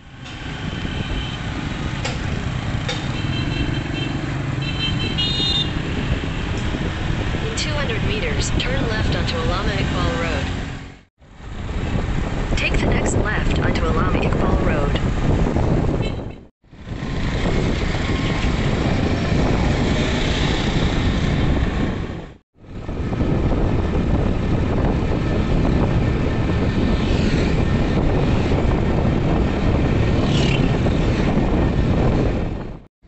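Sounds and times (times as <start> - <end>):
wind rushing over microphone: 0.0 - 32.9.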